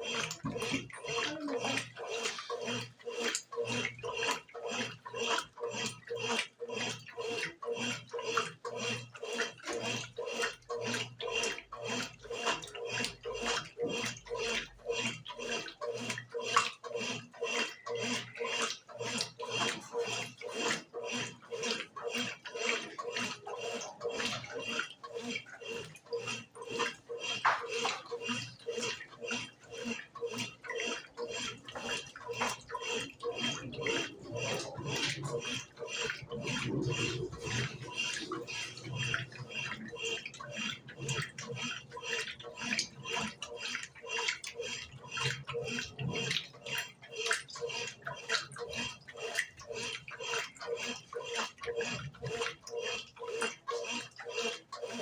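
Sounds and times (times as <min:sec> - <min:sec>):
washing machine sloshing: 0:00.0 - 0:55.0.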